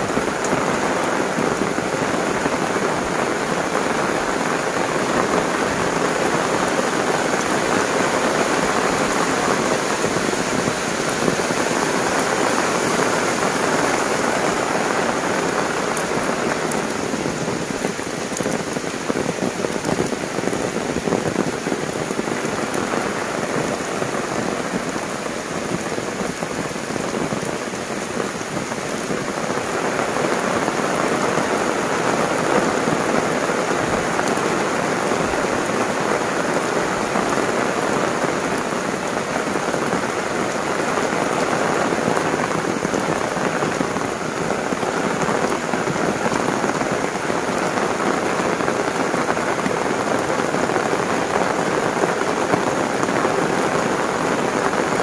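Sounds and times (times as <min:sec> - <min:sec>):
heavy rain on concrete and plants: 0:00.0 - 0:55.0.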